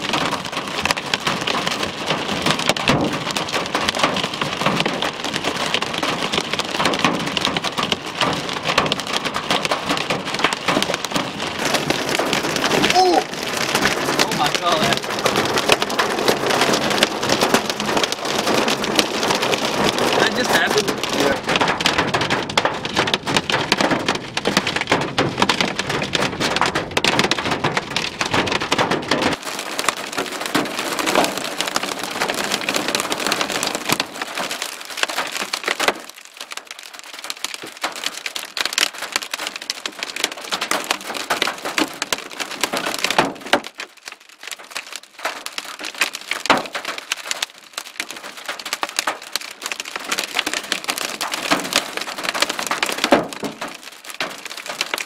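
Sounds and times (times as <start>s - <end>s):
hail and rain on vehicle roof: 0.0s - 55.0s
hailstones knocking: 0.0s - 55.0s.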